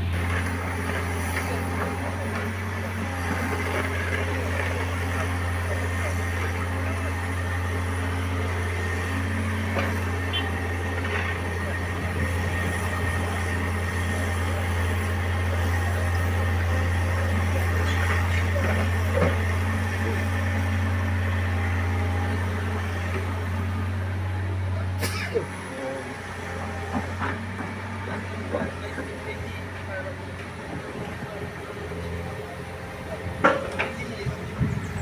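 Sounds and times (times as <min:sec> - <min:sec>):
diesel truck engine droning: 0:00.0 - 0:35.0.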